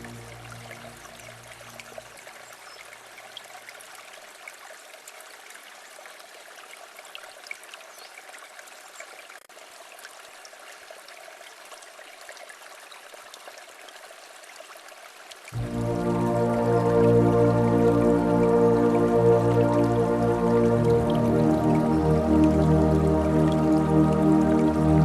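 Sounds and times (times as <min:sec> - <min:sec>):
river water babbling: 0:00.0 - 0:25.0.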